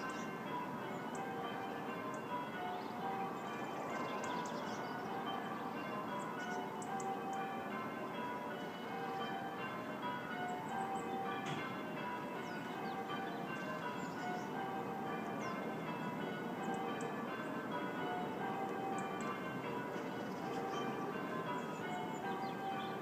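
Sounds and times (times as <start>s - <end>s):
church bells ringing: 0.0s - 23.0s
songbirds chirping: 0.0s - 23.0s.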